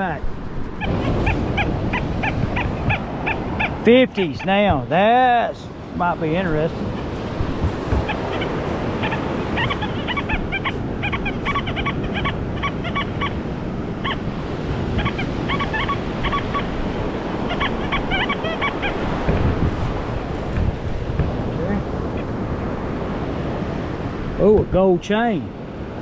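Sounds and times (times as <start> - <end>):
surf: 0.0 - 26.0
wind: 0.0 - 26.0.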